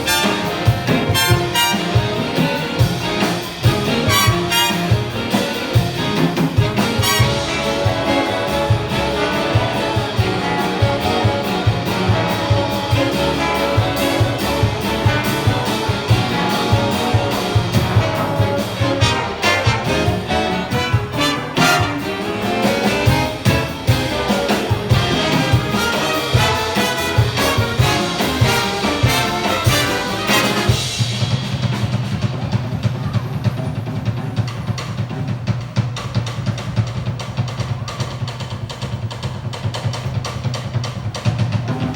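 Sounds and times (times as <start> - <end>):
big band jazz: 0.0 - 41.9
drum kit: 0.0 - 41.9.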